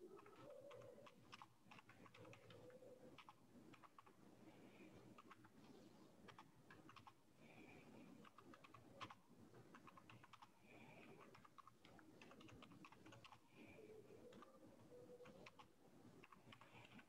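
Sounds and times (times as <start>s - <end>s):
typing on keyboard: 0.0s - 4.2s, 4.8s - 5.6s, 6.2s - 7.2s, 8.1s - 17.0s.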